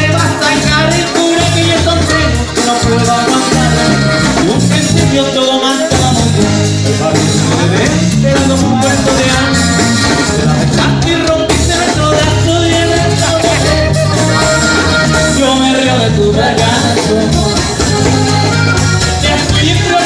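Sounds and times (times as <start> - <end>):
live band playing latin music: 0.0 - 20.0
person singing: 0.0 - 20.0.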